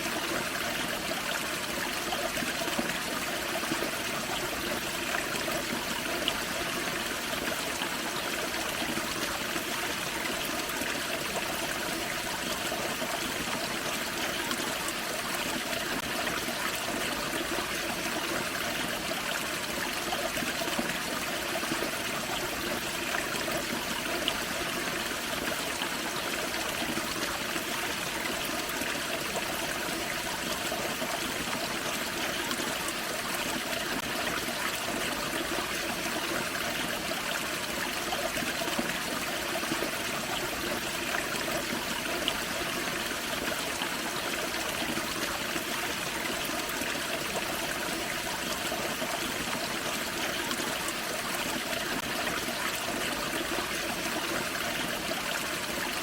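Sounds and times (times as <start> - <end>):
waterfall and creek splashing: 0.0 - 56.0.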